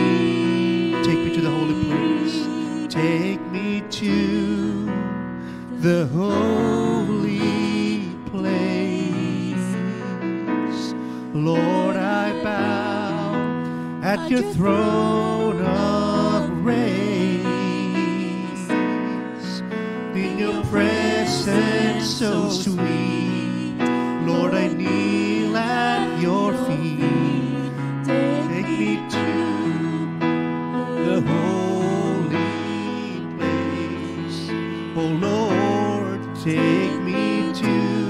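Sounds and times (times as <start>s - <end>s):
electric keyboard chords: 0.0s - 38.0s
man singing gospel song: 0.0s - 38.0s.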